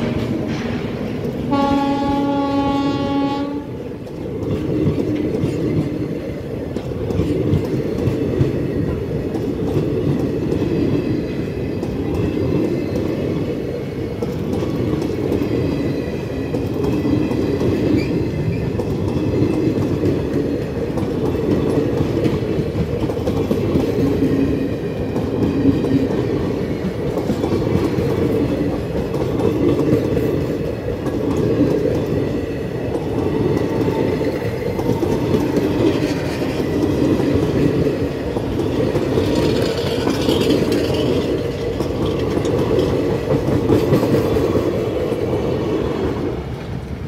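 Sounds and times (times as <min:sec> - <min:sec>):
wheels rumbling on rails: 0:00.0 - 0:47.0
wheels clickety-clack: 0:03.4 - 0:47.0.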